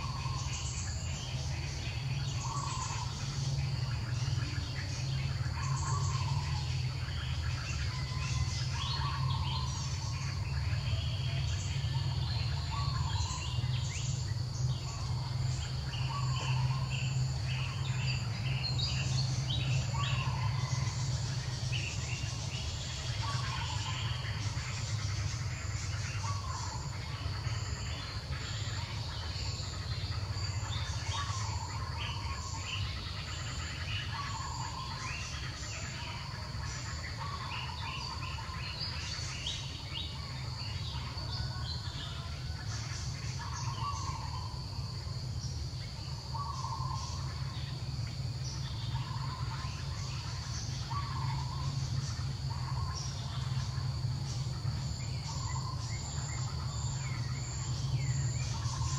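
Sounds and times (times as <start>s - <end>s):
high insect drone: 0.0s - 58.9s.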